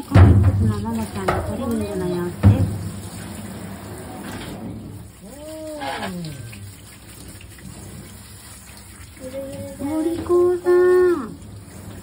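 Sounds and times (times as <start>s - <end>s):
shower water splashing: 0.0s - 12.0s.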